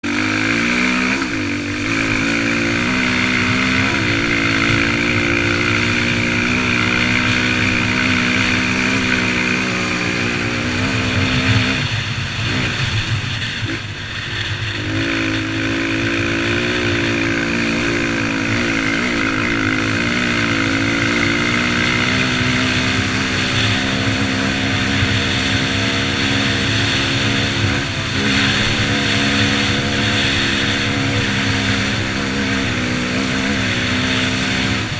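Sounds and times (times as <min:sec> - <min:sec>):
motocross bike engine running: 0:00.0 - 0:34.9.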